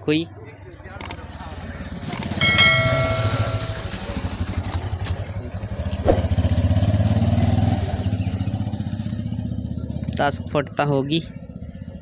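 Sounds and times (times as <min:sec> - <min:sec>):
engine running with steady throb: 0:00.8 - 0:12.0.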